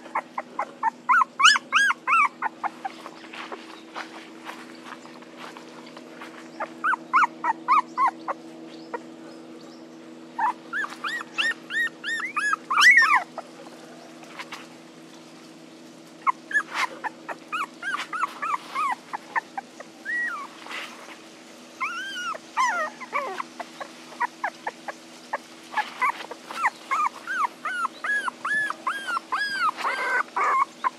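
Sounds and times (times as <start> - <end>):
puppies whimpering and yelping: 0.0 - 9.5, 10.3 - 14.7, 16.1 - 21.2, 21.8 - 30.9.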